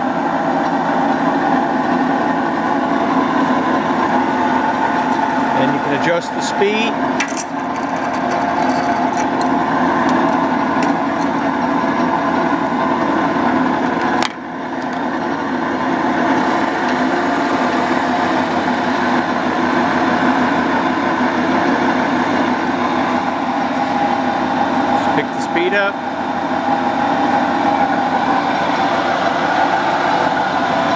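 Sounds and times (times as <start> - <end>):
motor whirring hum: 0.0 - 30.9.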